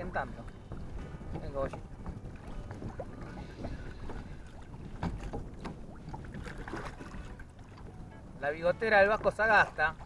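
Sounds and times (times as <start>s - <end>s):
water slapping against a kayak hull: 0.0s - 8.1s, 8.7s - 10.0s
wind buffeting microphone: 0.0s - 10.0s.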